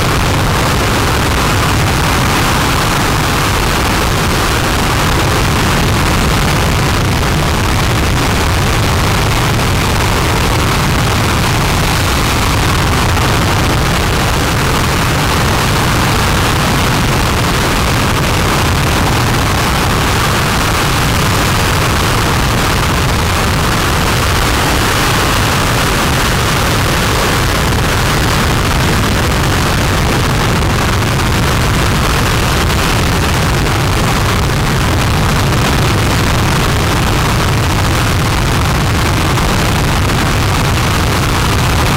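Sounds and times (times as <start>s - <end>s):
rocket engine roaring: 0.0s - 41.9s.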